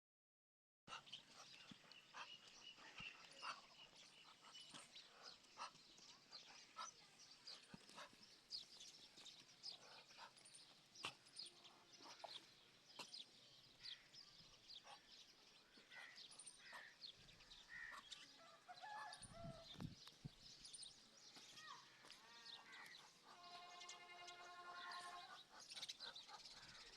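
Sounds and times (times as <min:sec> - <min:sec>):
birds chirping: 0:00.9 - 0:26.9.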